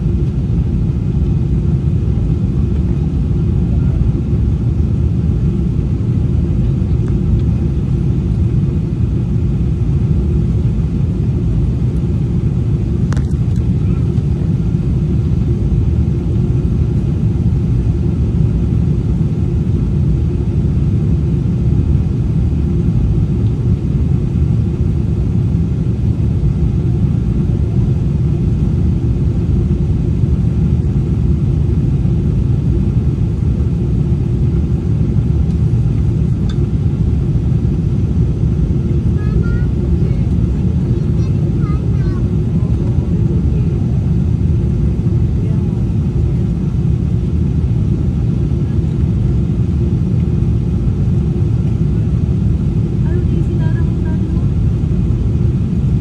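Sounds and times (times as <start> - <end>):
jet engine and airflow roar: 0.0 - 56.0.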